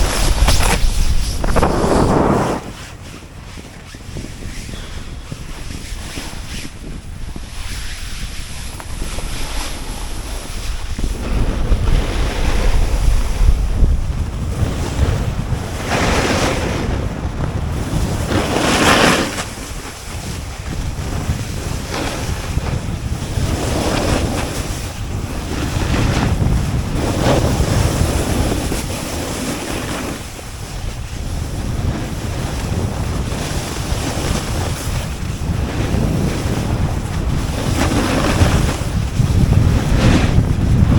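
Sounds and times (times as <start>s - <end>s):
snowboard scraping over snow: 0.0s - 40.9s
wind buffeting microphone: 0.0s - 40.9s.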